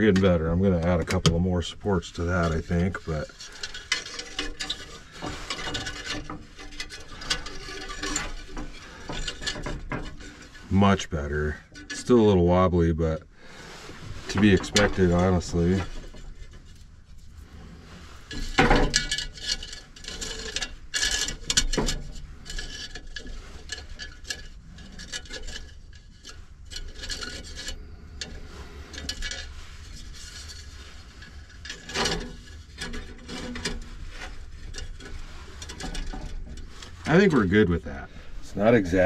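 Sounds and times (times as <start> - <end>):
wire scraping against clay pot: 0.0 - 39.0.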